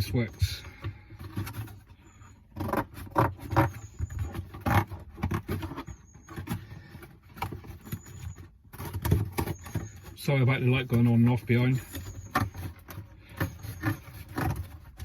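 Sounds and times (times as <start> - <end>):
plastic and cardboard knocks and scraping: 0.0 - 15.0.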